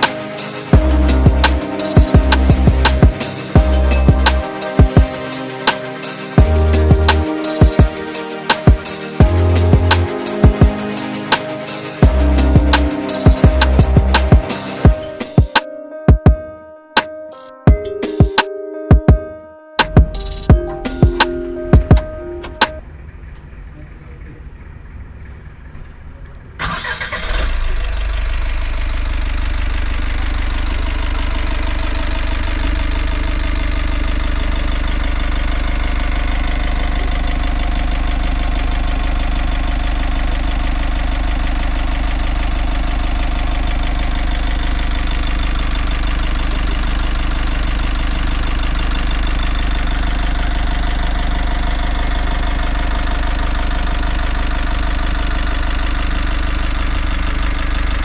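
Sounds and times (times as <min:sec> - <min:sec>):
diesel engine starting and idling: 0:00.0 - 0:15.3, 0:20.0 - 0:58.0.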